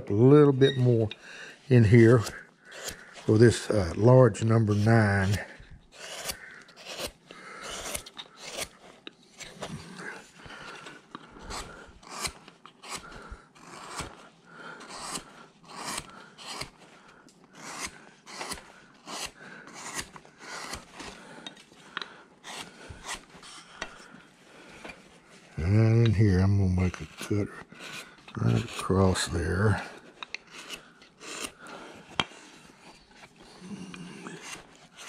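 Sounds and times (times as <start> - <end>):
gouge scraping into wood: 1.7 - 16.8, 17.5 - 25.1, 25.8 - 35.0.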